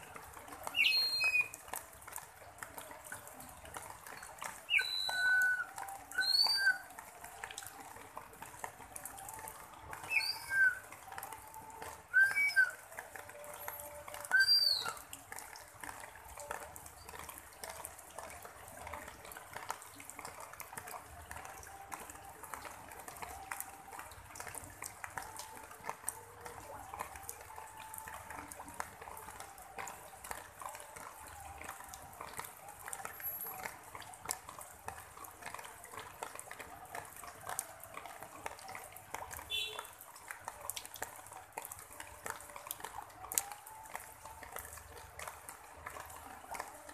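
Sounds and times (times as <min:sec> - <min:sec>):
light rain on leaves: 0:00.0 - 0:46.9.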